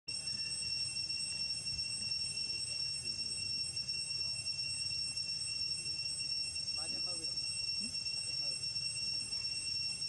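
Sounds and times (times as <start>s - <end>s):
high-pitched insect drone: 0.1s - 10.0s.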